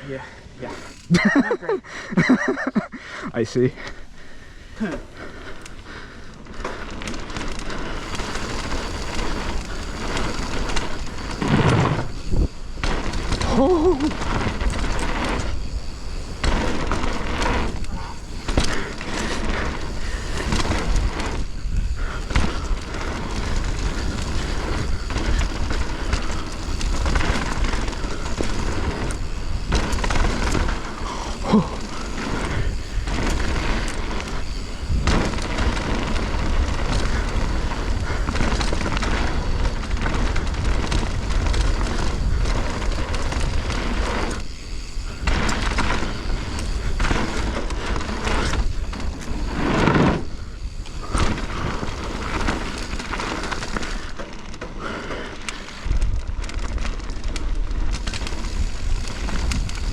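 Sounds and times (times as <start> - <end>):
bike rattling over bumps: 0.0 - 2.9, 3.5 - 59.9
tyre noise on dirt: 6.4 - 59.9
wind buffeting microphone: 8.0 - 54.0, 57.7 - 59.9.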